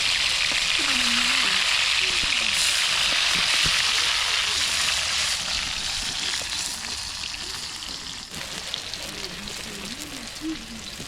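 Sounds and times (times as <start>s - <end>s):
food frying sizzle: 0.0s - 11.0s.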